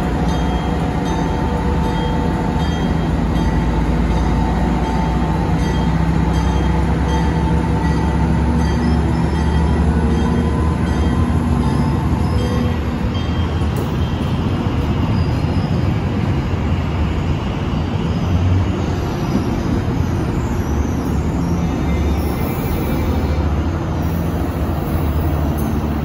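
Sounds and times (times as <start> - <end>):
diesel locomotive engine drone: 0.0 - 26.0
train wheels rumbling on rail: 0.0 - 26.0.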